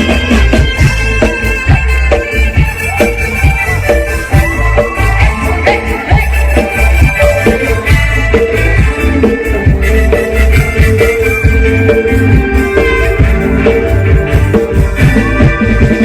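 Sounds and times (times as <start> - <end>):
band playing dance music: 0.0 - 16.0.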